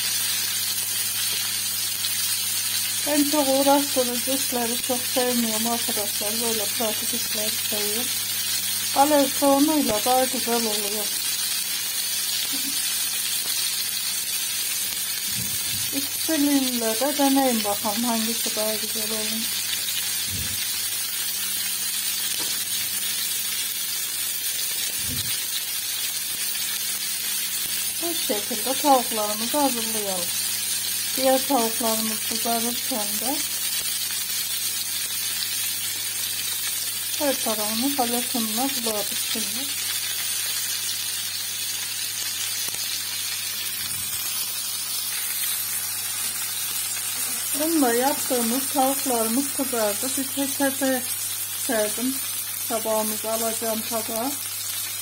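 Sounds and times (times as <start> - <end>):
chicken frying in oil: 0.0 - 55.0.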